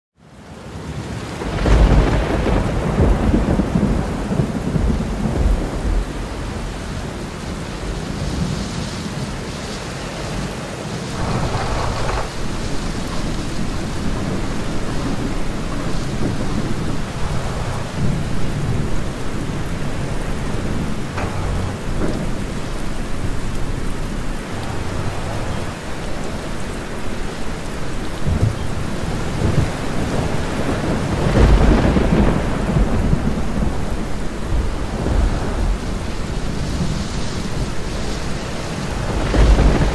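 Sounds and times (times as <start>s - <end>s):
steady rain: 0.2s - 39.9s
rolling thunder: 1.3s - 9.4s, 11.1s - 39.9s.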